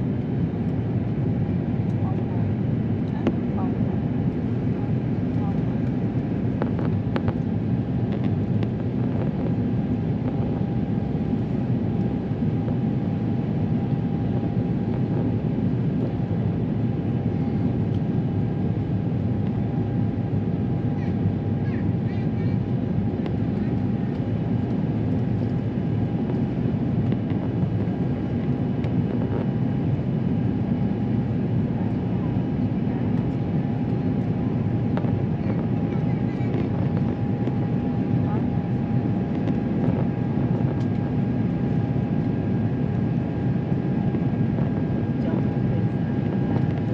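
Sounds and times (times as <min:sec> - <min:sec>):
airliner cabin rumble: 0:00.0 - 0:46.9
faint steady whine: 0:00.0 - 0:46.9.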